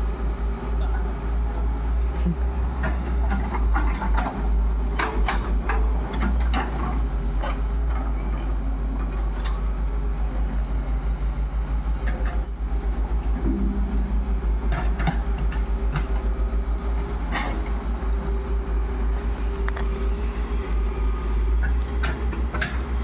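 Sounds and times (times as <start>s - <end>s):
diesel engine throbbing: 0.0s - 23.0s.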